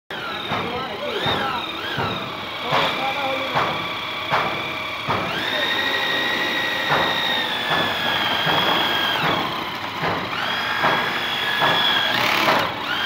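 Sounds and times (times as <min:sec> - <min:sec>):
electric drill mixer whining: 0:00.1 - 0:13.0.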